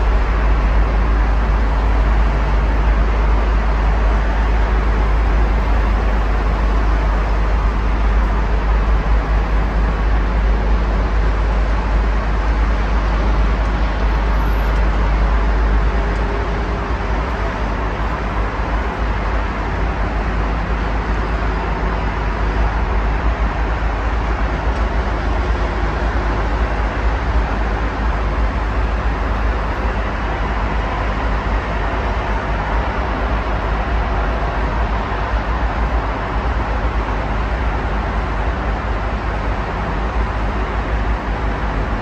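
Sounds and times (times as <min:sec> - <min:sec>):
city road traffic noise: 0:00.0 - 0:42.0.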